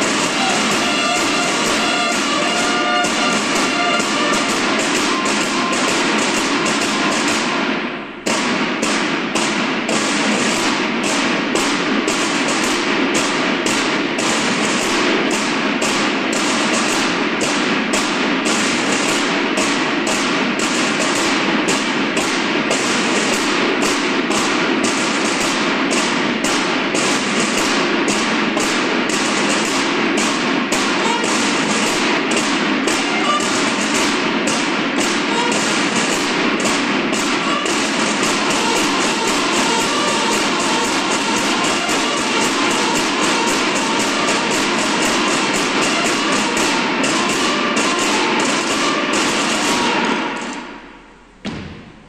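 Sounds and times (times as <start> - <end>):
marching snare drums: 0.0 - 52.0.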